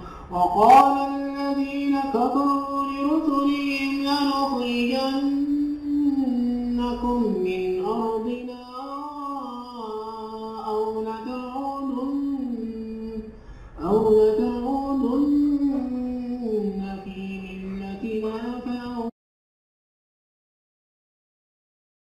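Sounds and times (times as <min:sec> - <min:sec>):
man's melodic recitation: 0:00.0 - 0:19.1.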